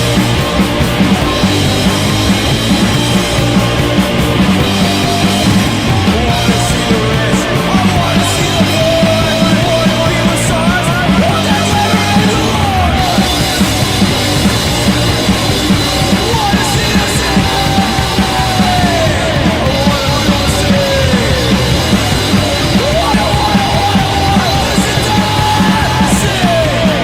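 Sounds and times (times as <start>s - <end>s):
high sliding melodic line: 0.0s - 27.0s
punk rock band playing: 0.0s - 27.0s.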